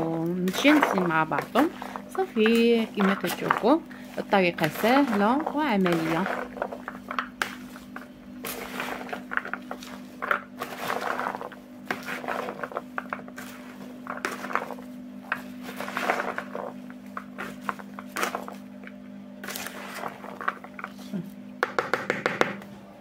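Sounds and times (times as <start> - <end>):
chickpeas rustling and scraping: 0.0 - 18.8, 19.4 - 21.1
steady low hum: 0.0 - 23.0.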